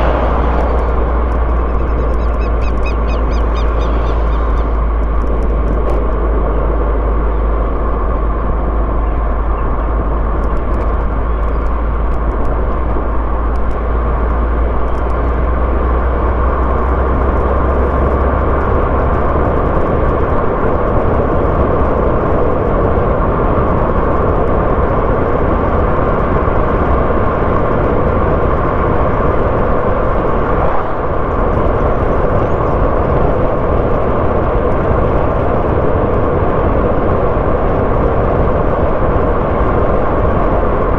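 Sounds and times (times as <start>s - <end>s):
car engine and tyre noise: 0.0s - 40.9s
deep low rumble: 0.0s - 40.9s.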